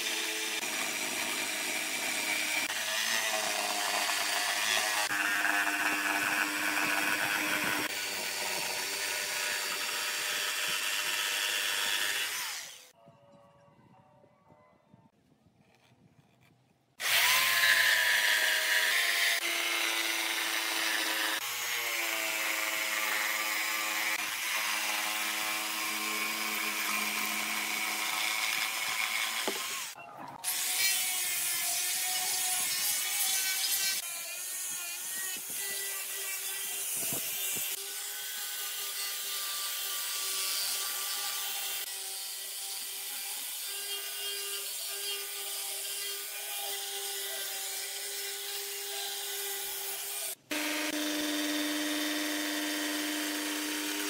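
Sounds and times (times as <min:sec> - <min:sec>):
angle grinder sanding wood: 0:00.0 - 0:12.9, 0:17.0 - 0:54.0
power tool working wood: 0:00.0 - 0:12.9, 0:17.0 - 0:54.0.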